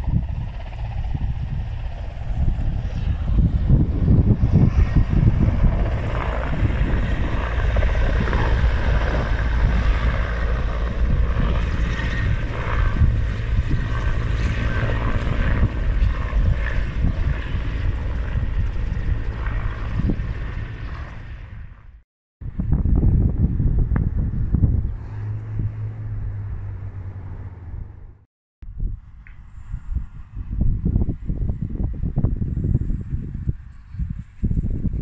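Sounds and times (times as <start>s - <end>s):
helicopter flying past: 0.0s - 28.2s.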